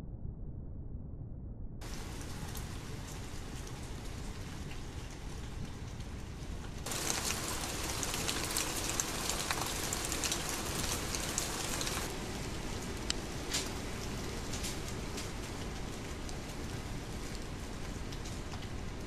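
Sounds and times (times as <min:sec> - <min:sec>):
rain on wooden steps and leaves: 0:01.8 - 0:19.0
raindrops ticking sharply: 0:01.8 - 0:19.0.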